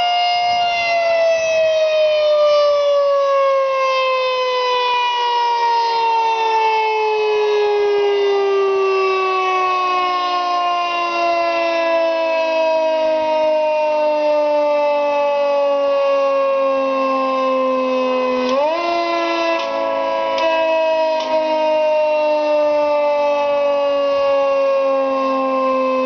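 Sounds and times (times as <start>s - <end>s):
warning siren sliding downward: 0.0s - 26.0s.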